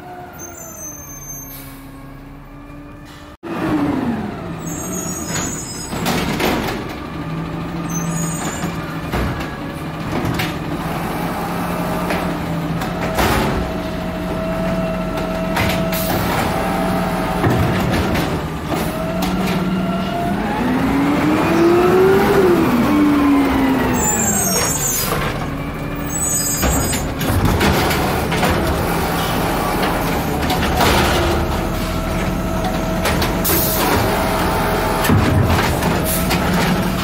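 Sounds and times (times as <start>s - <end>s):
garbage truck diesel engine: 0.0s - 37.0s.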